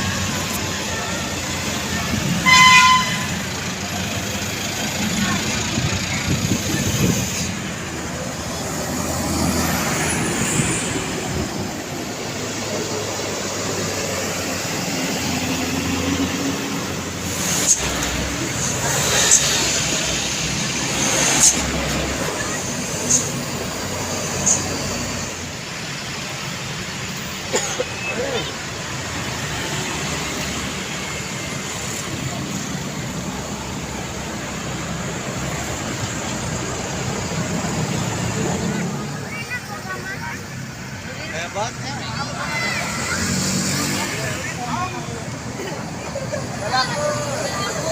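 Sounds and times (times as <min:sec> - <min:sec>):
heavy vehicle engine running: 0:00.0 - 0:47.9
tyre and road noise: 0:00.0 - 0:47.9.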